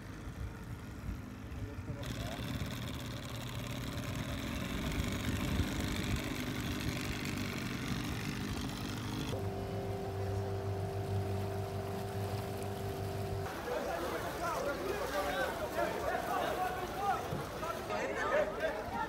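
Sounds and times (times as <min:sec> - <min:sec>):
steady hum of fixed tones: 0:00.0 - 0:16.6
outboard motor running: 0:00.0 - 0:19.0
water rushing around boat: 0:00.0 - 0:19.0.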